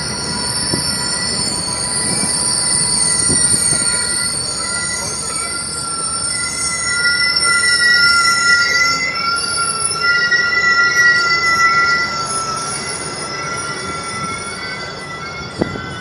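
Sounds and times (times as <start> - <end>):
train cars rumbling on rails: 0.0 - 16.0
train wheels squealing: 0.0 - 16.0.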